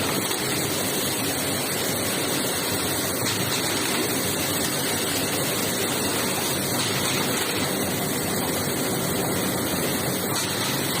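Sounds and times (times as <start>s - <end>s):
water spraying in washing machine: 0.0s - 11.0s.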